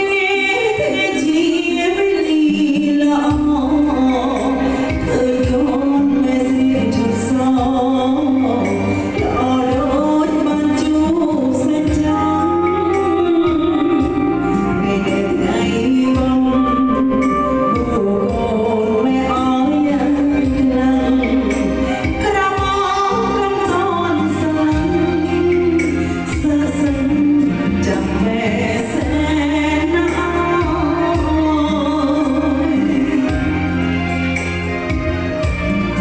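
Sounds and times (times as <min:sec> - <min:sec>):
band accompaniment: 0:00.0 - 0:36.0
woman singing into microphone: 0:00.0 - 0:36.0.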